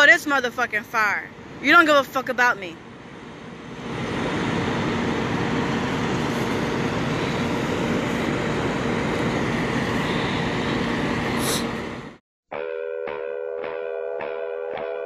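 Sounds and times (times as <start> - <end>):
truck engines and traffic rumble: 0.0 - 12.2.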